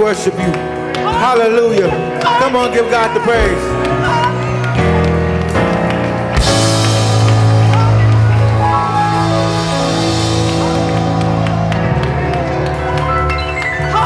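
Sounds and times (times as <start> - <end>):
worship band playing: 0.0 - 14.0.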